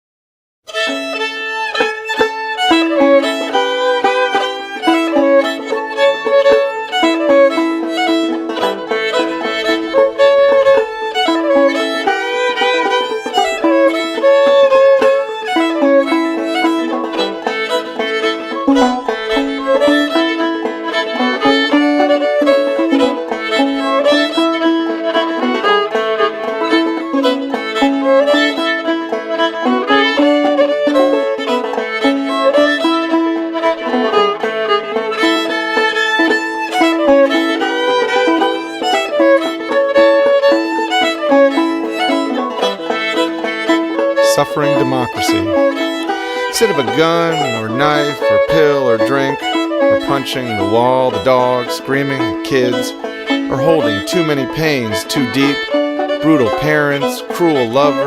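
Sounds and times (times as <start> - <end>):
fiddle playing a tune: 0.7 - 58.0.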